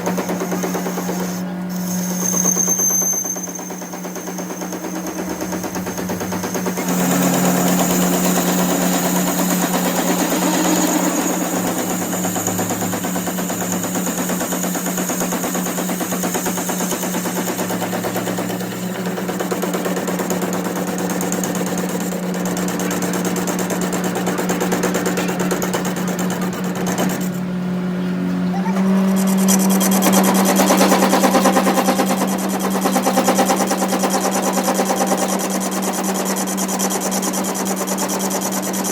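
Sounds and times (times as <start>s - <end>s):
workshop machine humming and rattling: 0.0s - 38.9s.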